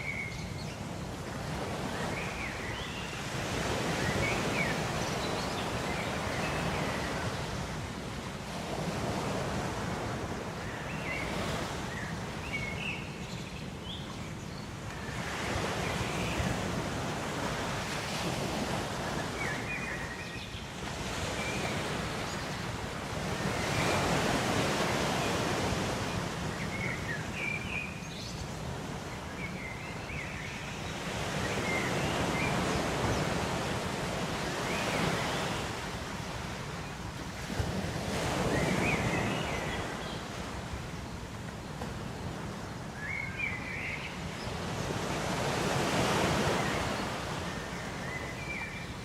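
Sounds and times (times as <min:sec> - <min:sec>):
ocean waves breaking on shore: 0:00.0 - 0:49.0.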